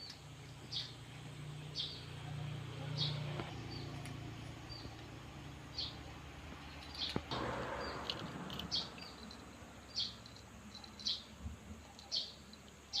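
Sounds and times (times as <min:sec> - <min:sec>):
small bird chirping: 0:00.0 - 0:02.3, 0:02.9 - 0:13.0.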